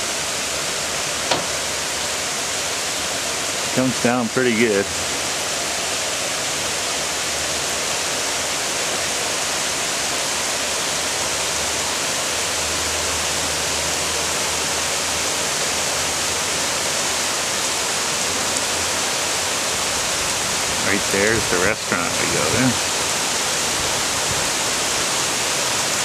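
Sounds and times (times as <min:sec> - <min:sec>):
heavy rain downpour hissing: 0:00.0 - 0:26.0.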